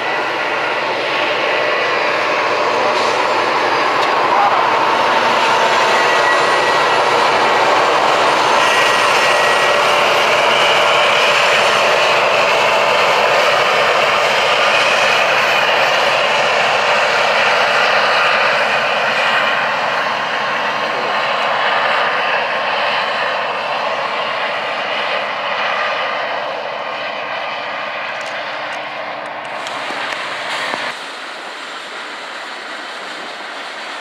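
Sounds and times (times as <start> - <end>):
diesel locomotive engines running: 0.0 - 34.0
freight cars rumbling: 0.0 - 34.0.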